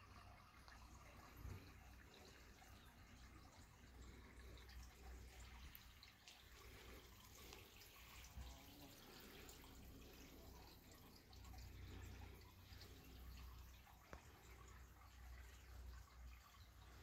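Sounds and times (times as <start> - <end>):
faint background hiss: 0.0 - 17.0
faint ticks: 0.1 - 17.0.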